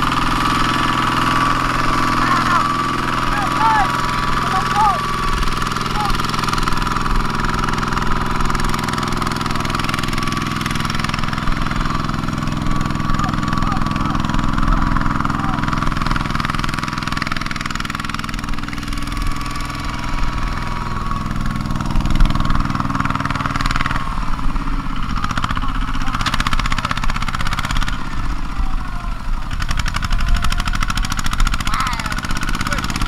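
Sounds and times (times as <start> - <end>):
single-cylinder diesel engine running: 0.0 - 33.0.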